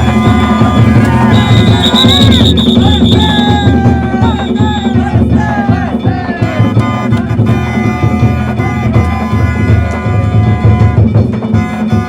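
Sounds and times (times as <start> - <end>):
taiko drum beating: 0.0 - 12.0
transverse flute bending notes: 0.0 - 12.0.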